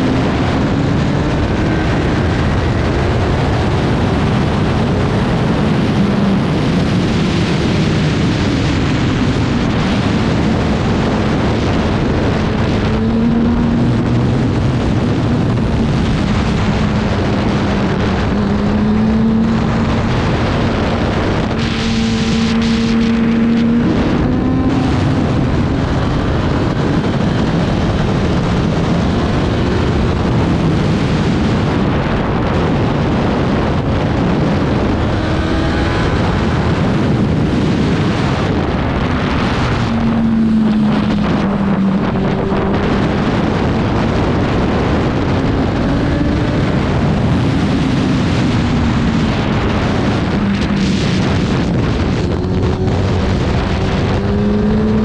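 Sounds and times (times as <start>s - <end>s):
racing motorcycle engine: 0.0s - 55.0s
wind noise on microphone: 0.0s - 55.0s.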